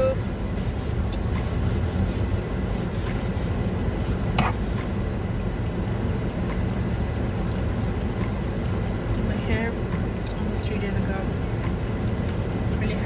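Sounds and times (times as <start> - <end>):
low rumble inside a car: 0.0 - 13.0.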